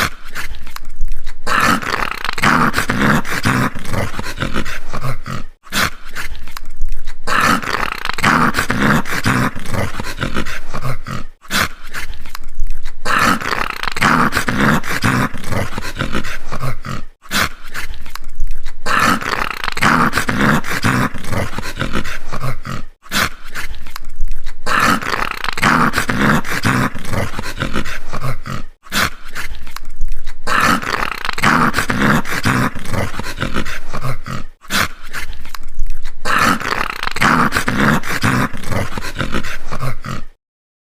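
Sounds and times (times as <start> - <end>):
dog growling: 0.0 - 40.4.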